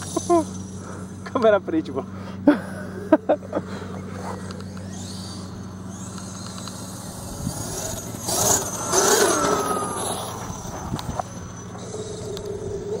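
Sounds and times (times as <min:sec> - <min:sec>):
electric motor whining: 0:00.0 - 0:01.5, 0:02.7 - 0:13.0.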